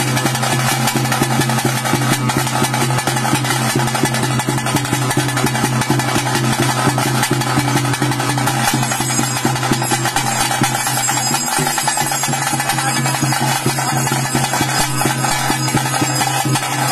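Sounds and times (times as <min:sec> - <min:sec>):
rapid drumming: 0:00.0 - 0:16.9.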